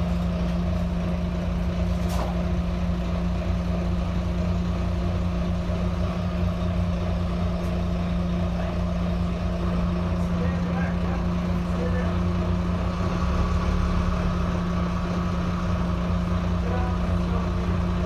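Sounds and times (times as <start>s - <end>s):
bus diesel engine idling: 0.0s - 18.0s.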